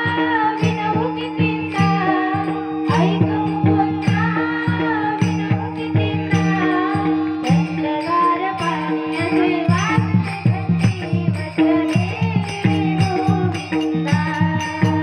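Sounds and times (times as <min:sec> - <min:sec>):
child singing: 0:00.0 - 0:15.0
small hand cymbals: 0:00.0 - 0:15.0.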